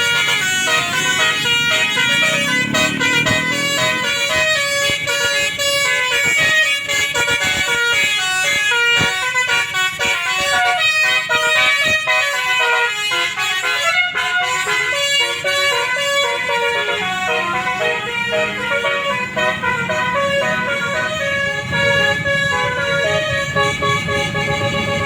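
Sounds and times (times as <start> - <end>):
musical air horn melody: 0.0 - 25.0.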